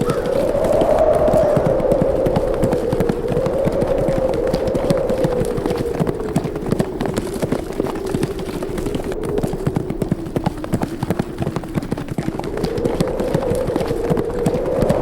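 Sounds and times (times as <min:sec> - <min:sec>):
hoofbeats of running horses: 0:00.0 - 0:15.0
wind: 0:00.0 - 0:15.0.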